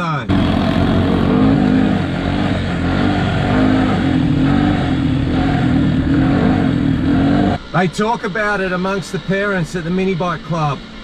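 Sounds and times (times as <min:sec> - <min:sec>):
dirt bike engines revving: 0:00.3 - 0:11.0.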